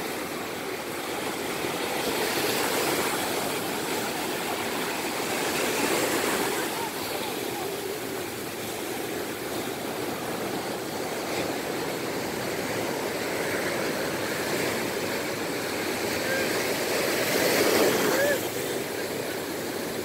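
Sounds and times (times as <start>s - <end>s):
ocean surf breaking on beach: 0.0s - 20.0s.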